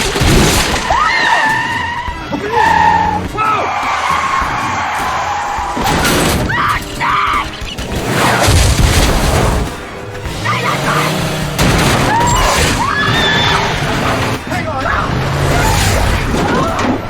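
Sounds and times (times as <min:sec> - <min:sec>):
crashing and shattering: 0:00.0 - 0:01.9, 0:04.2 - 0:17.0
dramatic music score: 0:00.0 - 0:17.0.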